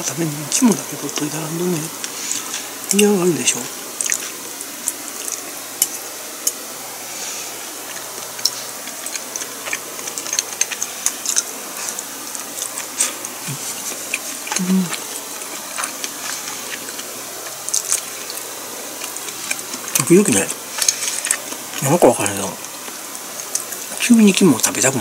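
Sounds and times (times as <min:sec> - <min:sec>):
closed-mouth hum: 0:00.0 - 0:25.0
steady hiss: 0:00.0 - 0:25.0
person chewing: 0:00.5 - 0:03.0, 0:03.8 - 0:24.7.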